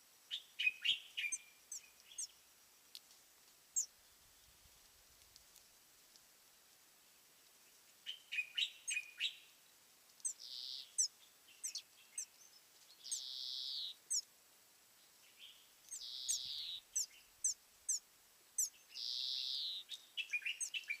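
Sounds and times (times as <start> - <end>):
songbird singing: 0.0 - 3.1, 3.7 - 5.5, 7.4 - 21.0.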